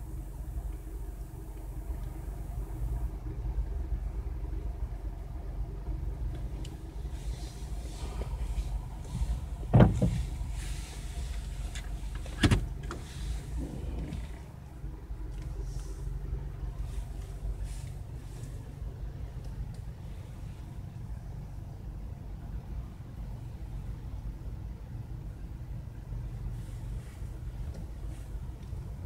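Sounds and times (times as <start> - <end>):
car cabin rumble: 0.0 - 29.0.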